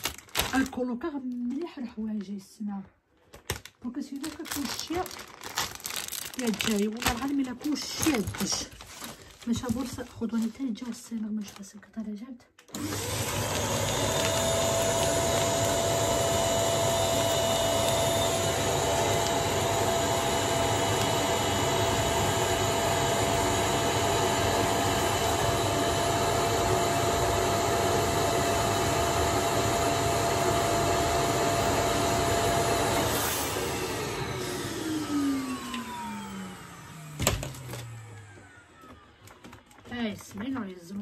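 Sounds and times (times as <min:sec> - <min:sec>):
vacuum cleaner running: 0:04.2 - 0:10.6, 0:12.7 - 0:40.3.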